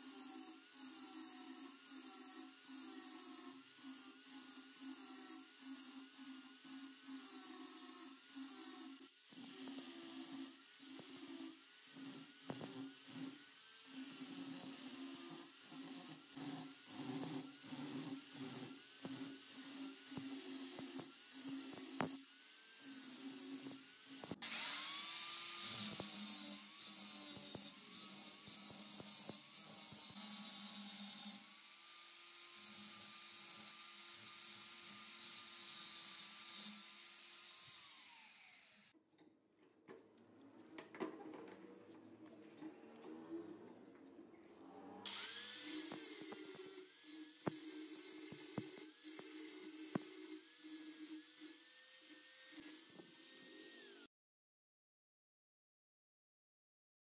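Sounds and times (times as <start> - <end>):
angle grinder grinding metal: 0.0 - 39.0, 40.3 - 54.1.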